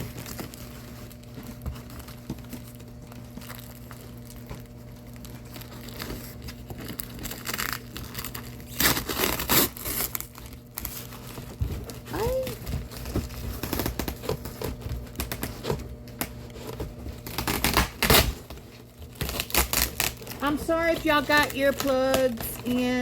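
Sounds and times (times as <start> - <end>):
cardboard crinkling and scraping: 0.0 - 23.0
cardboard tearing: 0.0 - 23.0.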